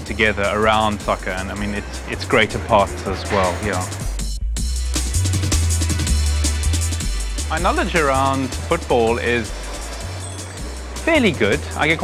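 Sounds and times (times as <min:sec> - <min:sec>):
music with heavy bass and drums: 0:00.0 - 0:12.0.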